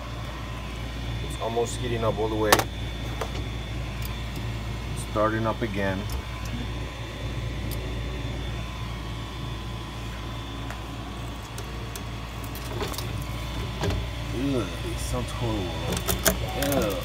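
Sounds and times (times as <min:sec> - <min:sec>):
printer fans and motors humming: 0:00.0 - 0:17.0
thin steady whine: 0:00.0 - 0:17.0.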